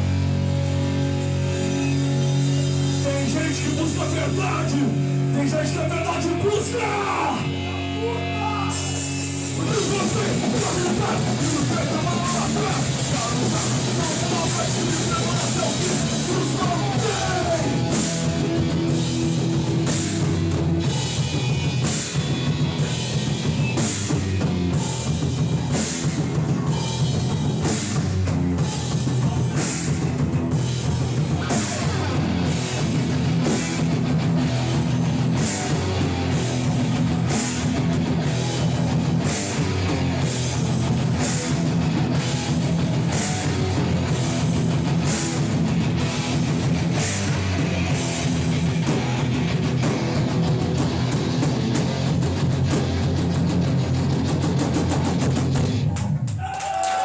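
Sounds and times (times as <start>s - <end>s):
punk band playing live: 0.0s - 57.0s
cymbal struck in driving rhythm: 9.2s - 55.8s.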